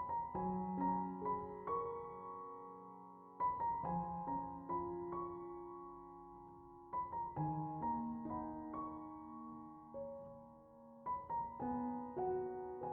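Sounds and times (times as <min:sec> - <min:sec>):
soft piano music: 0:00.0 - 0:12.9.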